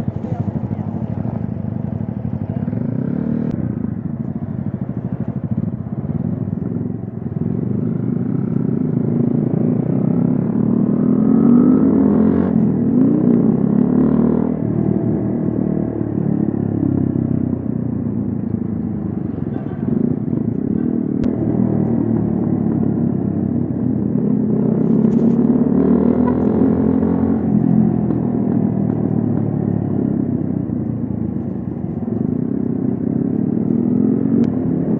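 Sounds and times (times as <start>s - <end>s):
traffic: 0.0s - 34.9s.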